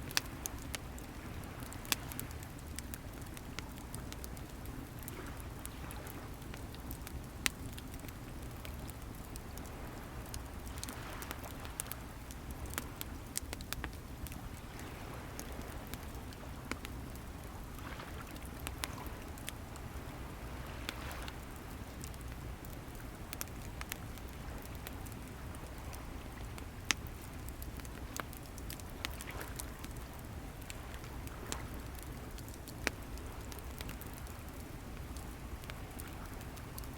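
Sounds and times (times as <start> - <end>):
bonfire crackling and popping: 0.0 - 36.9.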